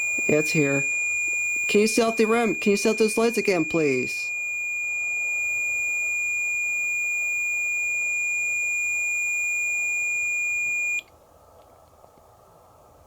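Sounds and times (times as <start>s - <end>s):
high-pitched electronic alarm tone: 0.0s - 11.0s.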